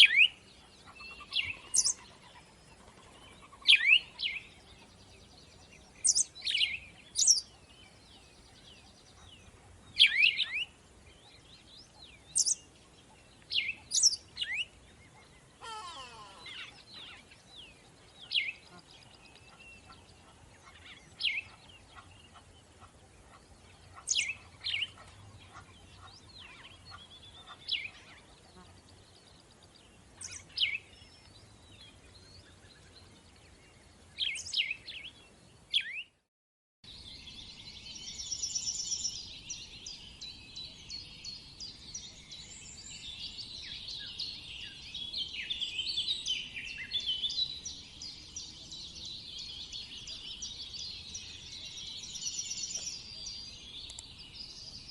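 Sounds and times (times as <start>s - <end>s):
chorus of birds chattering: 0.0s - 35.9s, 37.4s - 54.9s.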